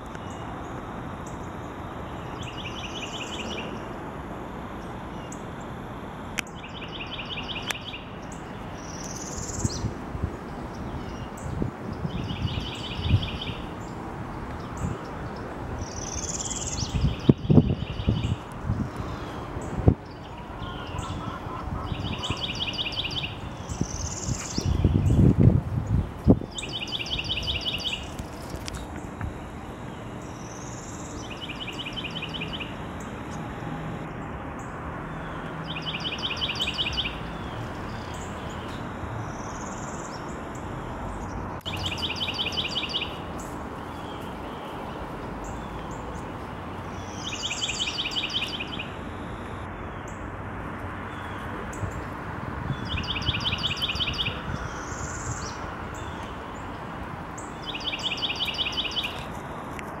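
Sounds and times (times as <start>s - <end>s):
songbird trilling song: 0.0s - 4.0s, 6.4s - 9.9s, 10.5s - 29.2s, 29.8s - 33.5s, 34.6s - 46.3s, 46.9s - 50.2s, 52.7s - 56.8s, 57.4s - 59.4s
steady background noise: 0.0s - 60.0s.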